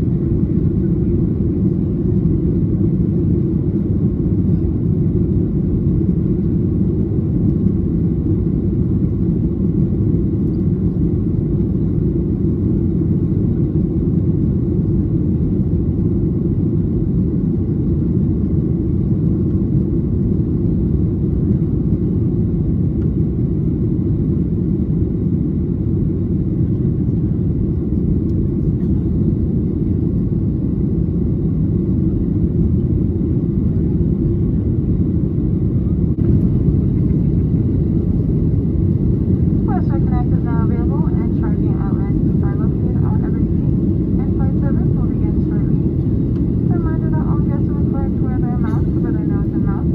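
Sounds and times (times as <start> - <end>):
airplane cabin engine rumble: 0.0 - 49.9.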